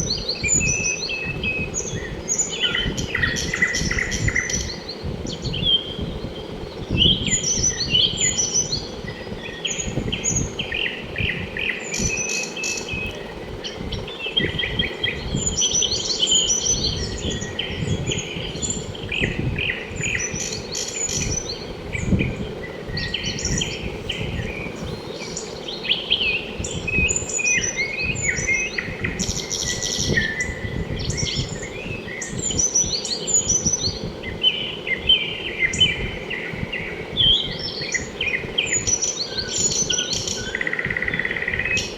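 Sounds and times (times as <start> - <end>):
small birds twittering: 0.0 - 41.9.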